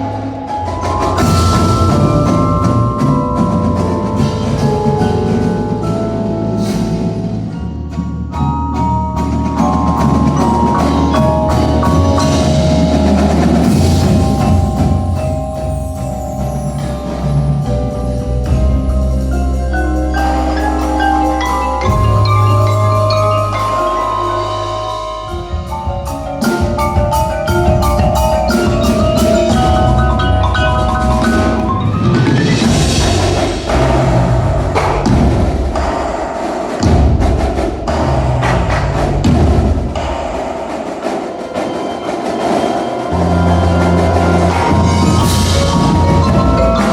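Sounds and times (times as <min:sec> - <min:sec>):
low bass: 0:00.0 - 0:26.7, 0:27.3 - 0:35.8, 0:36.8 - 0:39.9, 0:43.1 - 0:46.9
mallet keyboards ringing: 0:00.0 - 0:35.9, 0:40.0 - 0:46.9
drum and percussion strikes: 0:00.0 - 0:46.9
marimba chords: 0:00.0 - 0:46.9.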